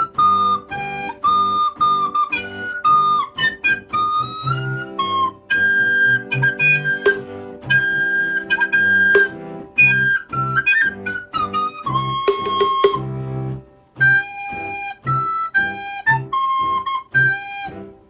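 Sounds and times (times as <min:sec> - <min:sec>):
low chordal backing: 0:00.0 - 0:16.9
soprano recorder melody: 0:00.0 - 0:18.0.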